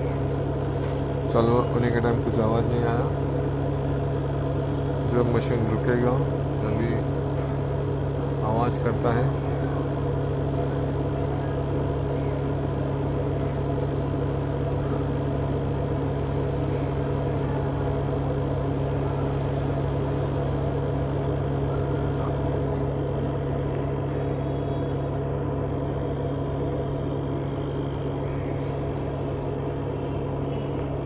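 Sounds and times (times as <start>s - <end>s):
washing machine spin drum humming: 0.0s - 31.0s.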